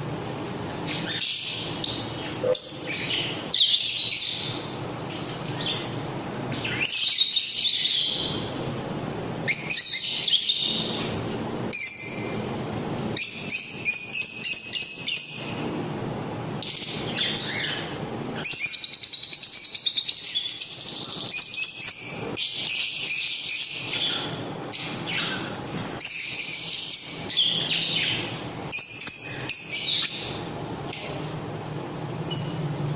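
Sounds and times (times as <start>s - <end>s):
parrots chirping and chattering: 0.3s - 16.0s, 16.6s - 32.9s.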